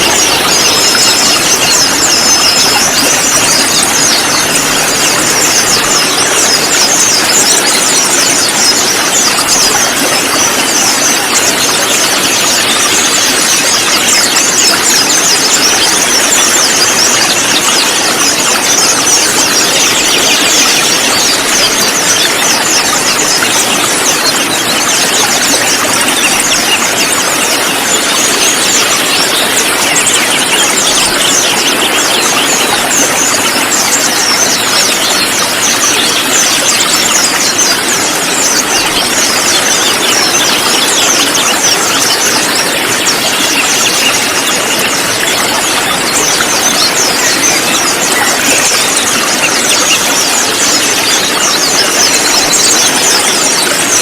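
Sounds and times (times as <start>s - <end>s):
birds chattering calls: 0.0s - 54.0s.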